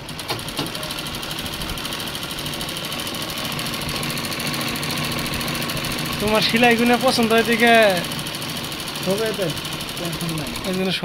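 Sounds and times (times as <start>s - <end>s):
sewing machine stitching: 0.0s - 11.0s.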